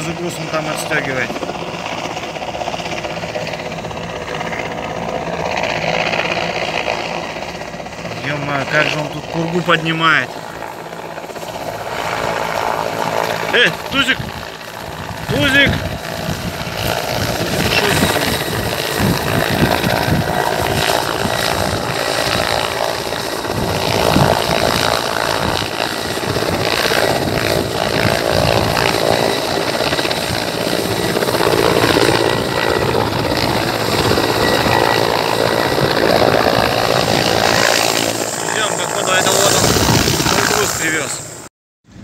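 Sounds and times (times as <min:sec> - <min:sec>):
helicopter rotor and turbine: 0:00.0 - 0:42.0.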